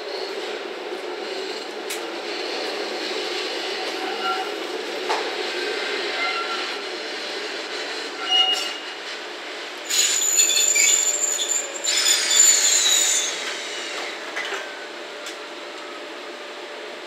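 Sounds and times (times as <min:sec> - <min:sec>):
train wheels squealing on rails: 0:00.0 - 0:14.9.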